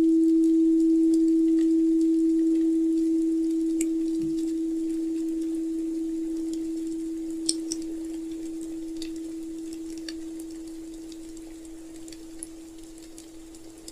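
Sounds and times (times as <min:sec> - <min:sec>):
fire crackling: 0:00.0 - 0:13.9
steady pure tone: 0:00.0 - 0:13.9.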